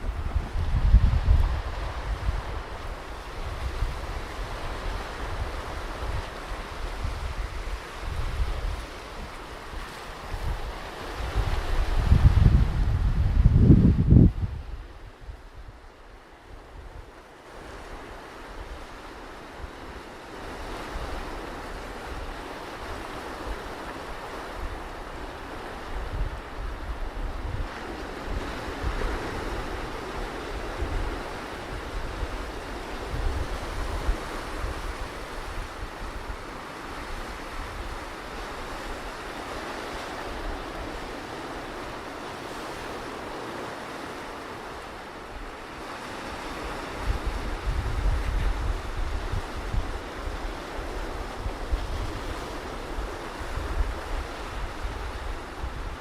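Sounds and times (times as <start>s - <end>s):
ocean surf washing on beach: 0.0s - 56.0s
wind gusting on microphone: 0.0s - 56.0s.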